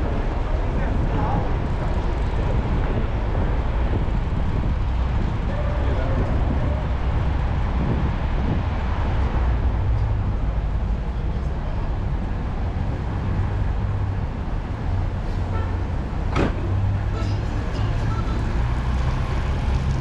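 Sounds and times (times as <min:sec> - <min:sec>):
passing cars rumbling: 0:00.0 - 0:20.0.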